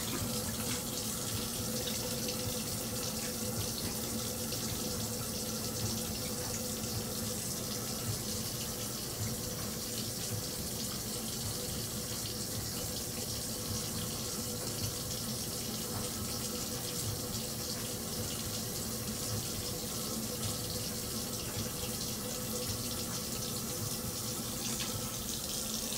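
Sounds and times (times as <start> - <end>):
sink tap running: 0.0 - 25.9.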